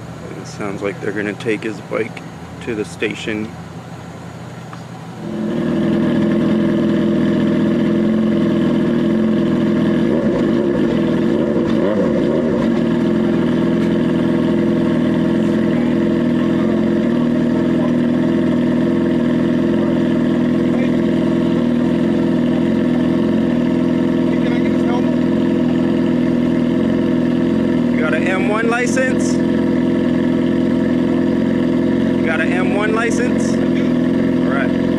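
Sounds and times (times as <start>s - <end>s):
motorcycle engine starting and idling: 4.7s - 34.9s.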